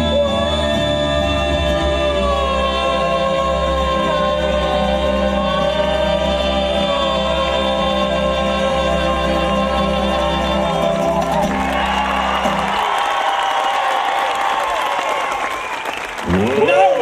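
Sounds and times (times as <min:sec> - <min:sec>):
backing music: 0:00.0 - 0:13.8, 0:16.2 - 0:17.0.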